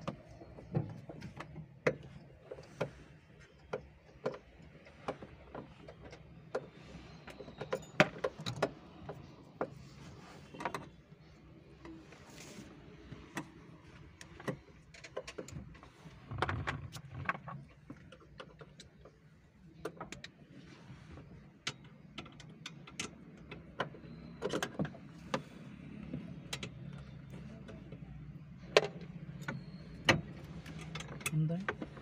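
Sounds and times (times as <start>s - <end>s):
hand tools and plastic parts clicking: 0.0s - 9.8s, 12.6s - 20.4s, 21.5s - 32.0s.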